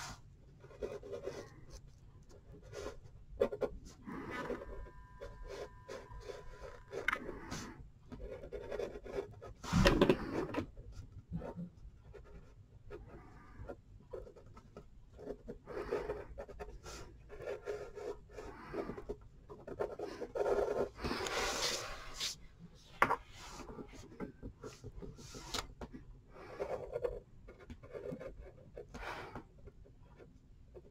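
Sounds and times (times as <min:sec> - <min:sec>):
marker scratching on paper: 0:00.0 - 0:14.6, 0:15.2 - 0:22.5, 0:26.4 - 0:29.4.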